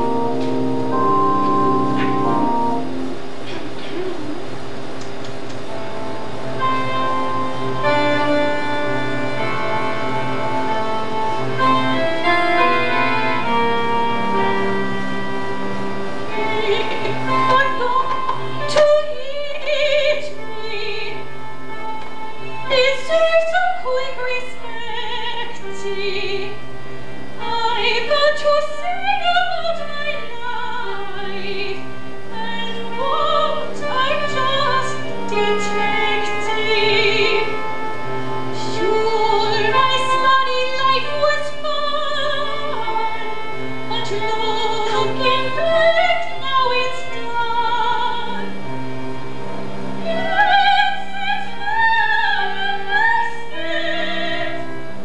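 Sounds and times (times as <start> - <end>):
held low accompaniment notes: 0.0 - 55.0
operatic singing with vibrato: 6.6 - 26.8, 27.4 - 48.8, 50.0 - 55.0.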